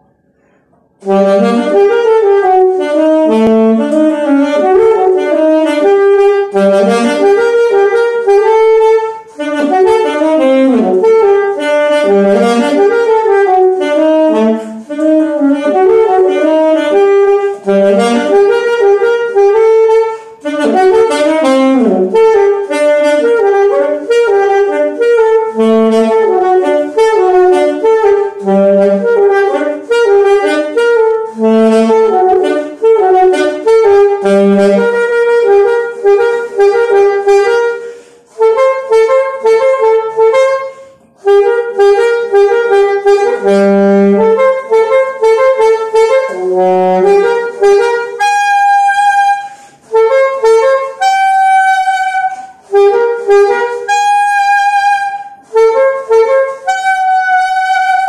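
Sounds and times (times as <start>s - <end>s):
alto saxophone melody: 0.8s - 58.0s.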